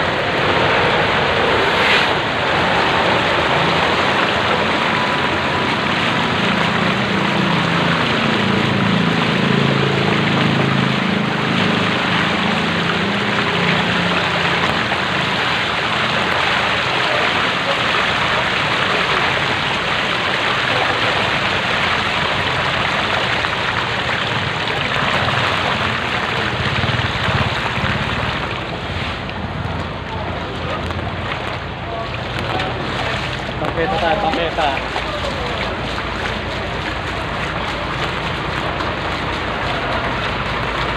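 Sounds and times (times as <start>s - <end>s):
floodwater splashing: 0.0s - 40.9s.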